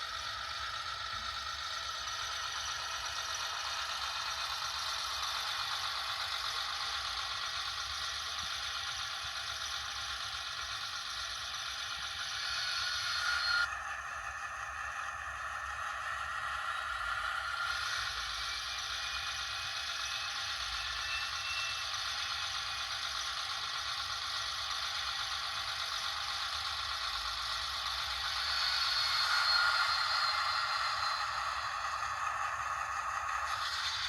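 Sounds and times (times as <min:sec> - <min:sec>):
model freight car rattling whir: 0:00.0 - 0:34.0.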